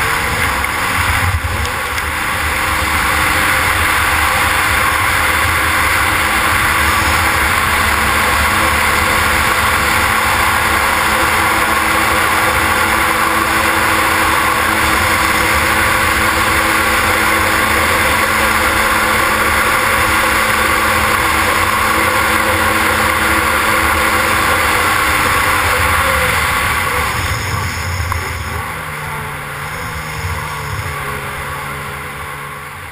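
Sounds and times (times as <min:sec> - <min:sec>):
jet ski engine running: 0:00.0 - 0:32.9
water rushing: 0:00.0 - 0:32.9.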